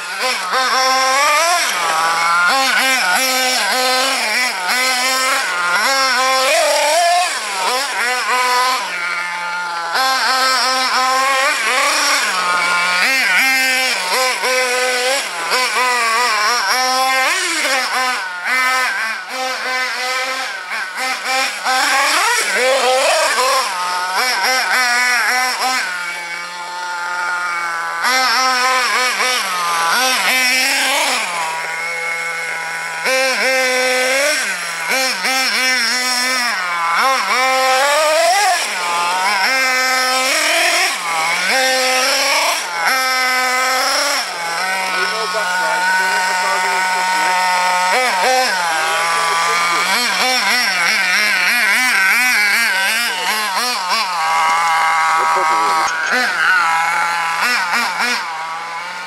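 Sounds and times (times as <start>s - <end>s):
model nitro engine revving: 0.0s - 59.0s.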